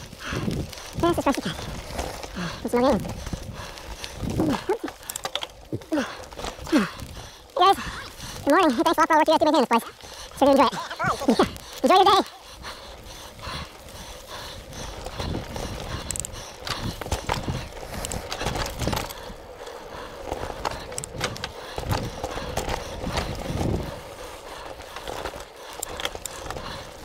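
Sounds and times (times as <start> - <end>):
bike knocking and rattling: 0.0 - 27.0
bike tyres rumbling on dirt: 0.0 - 27.0.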